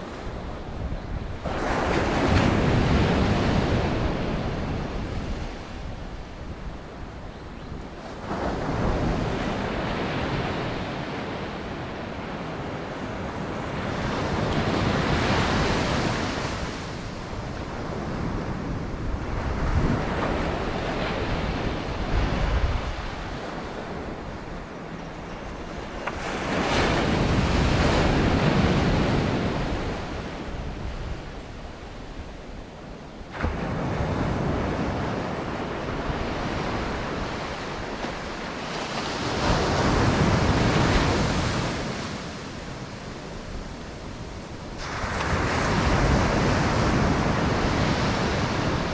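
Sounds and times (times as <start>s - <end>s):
waves breaking and washing in: 0.0s - 48.9s
wind buffeting microphone: 0.0s - 48.9s.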